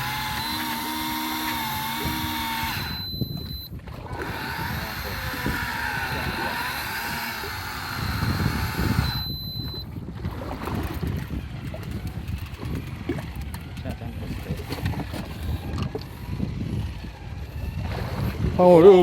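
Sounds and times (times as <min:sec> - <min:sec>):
sea noise: 0:00.0 - 0:13.5, 0:14.2 - 0:19.0
steady wind: 0:00.0 - 0:19.0
wind buffeting microphone: 0:00.0 - 0:19.0.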